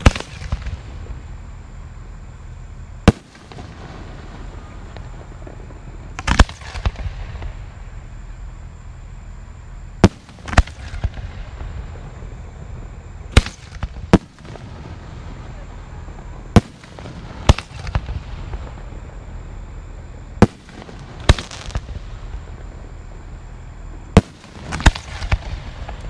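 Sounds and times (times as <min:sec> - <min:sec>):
fireworks bangs: 0:00.0 - 0:01.6, 0:03.0 - 0:26.0.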